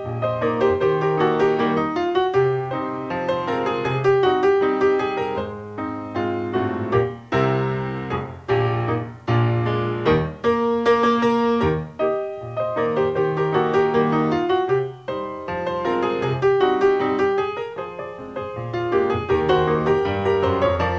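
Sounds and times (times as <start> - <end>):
piano playing chords: 0.0 - 20.9.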